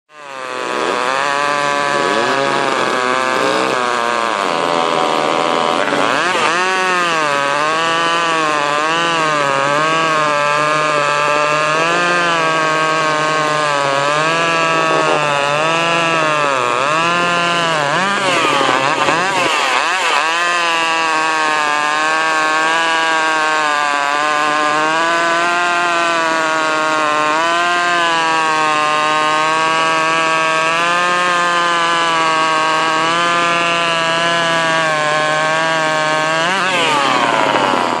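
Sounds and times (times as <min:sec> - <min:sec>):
chainsaw cutting through log: 0:00.1 - 0:38.0.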